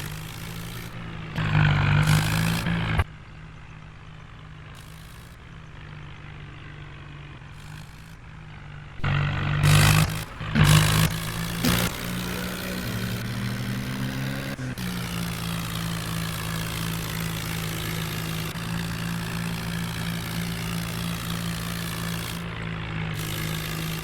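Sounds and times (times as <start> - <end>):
heavy machine engine running: 0.0 - 24.0.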